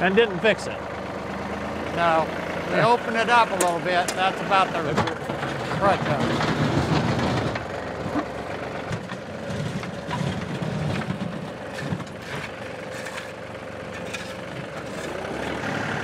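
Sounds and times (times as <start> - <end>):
tractor diesel engine running: 0.0 - 16.0
loader bucket scraping dirt: 1.3 - 16.0.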